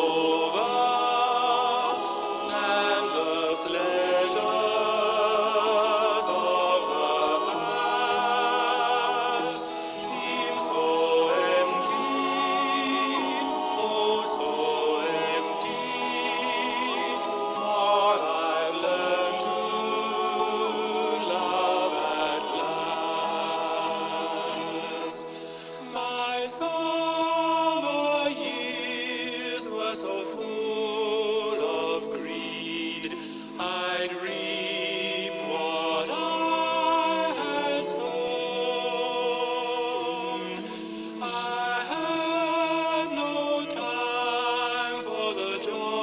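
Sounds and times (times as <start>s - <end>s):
musical accompaniment: 0.0s - 46.0s
voices singing held notes: 0.0s - 46.0s.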